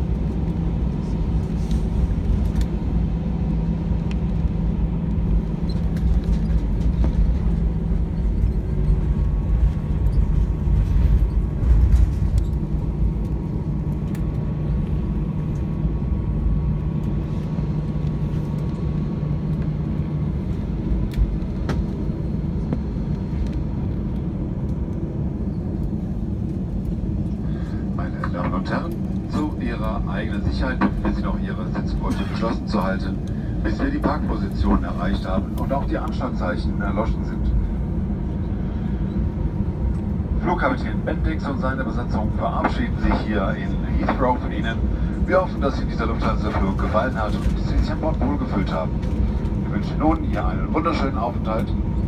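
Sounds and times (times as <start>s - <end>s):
jet engine hum: 0.0s - 52.0s
landing gear rumbling on runway: 0.0s - 52.0s.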